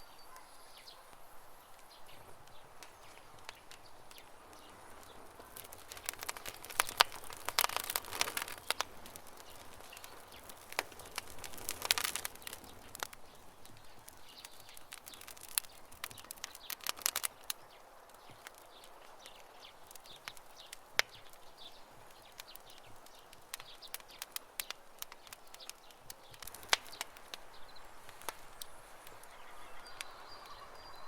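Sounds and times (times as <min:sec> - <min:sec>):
faint birdsong: 0:00.0 - 0:31.0
campfire crackling and popping: 0:00.3 - 0:31.0.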